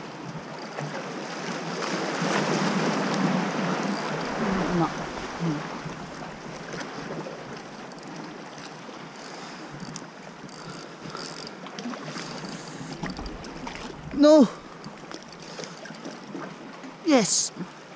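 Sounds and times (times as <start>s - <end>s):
sea water washing against rocks: 0.0s - 9.8s, 11.5s - 16.7s.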